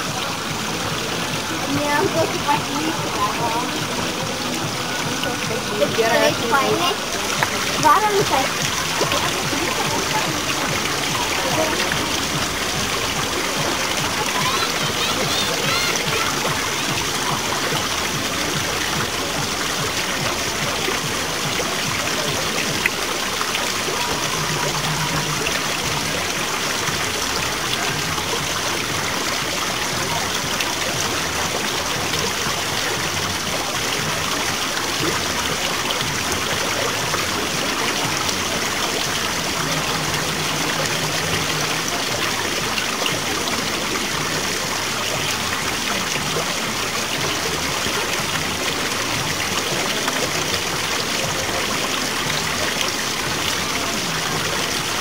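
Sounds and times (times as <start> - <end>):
water running over rocks: 0.0 - 55.0.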